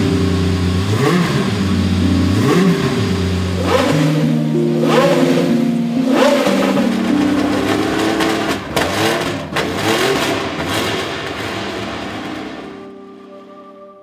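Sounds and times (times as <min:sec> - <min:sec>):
racing engine revving: 0:00.3 - 0:12.8.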